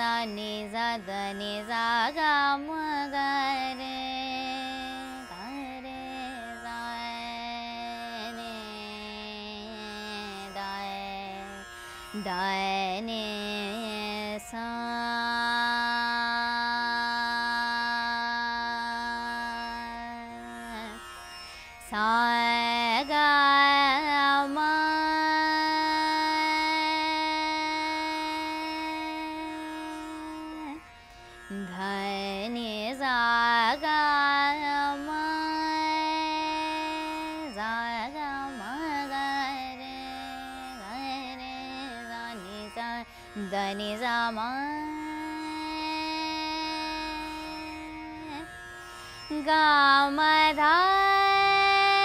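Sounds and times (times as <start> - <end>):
woman singing classical phrases: 0.0 - 11.6, 12.2 - 21.0, 21.8 - 30.8, 31.5 - 48.5, 49.3 - 52.0
tanpura drone: 0.0 - 52.0.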